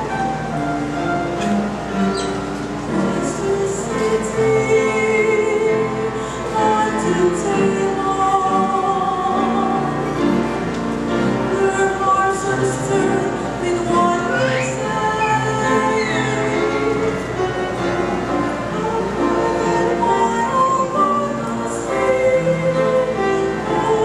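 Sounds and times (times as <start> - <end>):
mixed choir singing in parts: 2.2 - 24.0.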